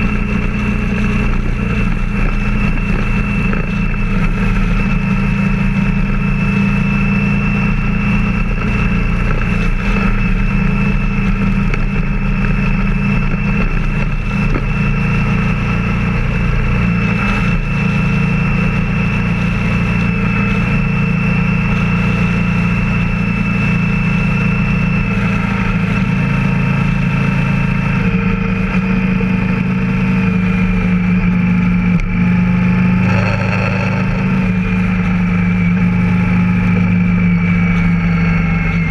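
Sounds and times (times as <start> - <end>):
constant high whine: 0.0 - 38.9
vehicle engine and road noise: 0.0 - 38.9.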